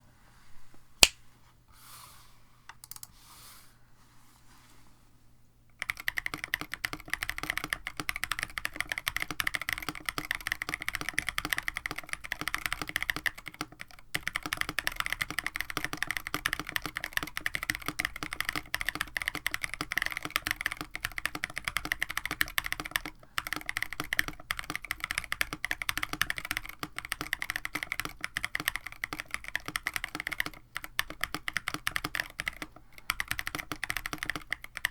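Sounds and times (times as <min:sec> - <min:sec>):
mechanical keyboard typing: 0:02.7 - 0:03.1, 0:05.8 - 0:34.9.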